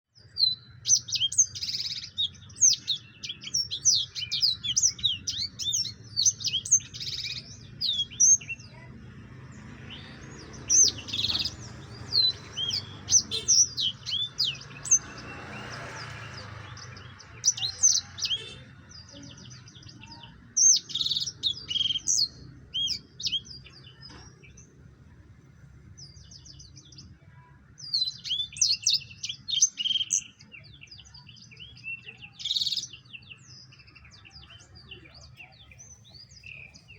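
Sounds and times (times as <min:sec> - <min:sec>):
canary singing: 0:00.1 - 0:36.9.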